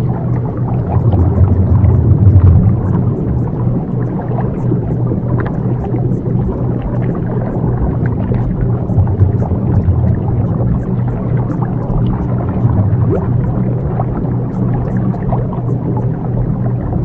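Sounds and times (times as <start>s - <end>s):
rumbling noisy wash: 0.0s - 17.0s
steady low drone: 0.0s - 17.0s.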